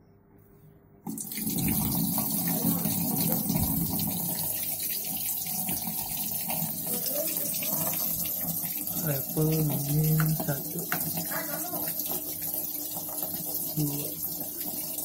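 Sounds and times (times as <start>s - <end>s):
water pouring into washing machine: 1.1s - 15.0s.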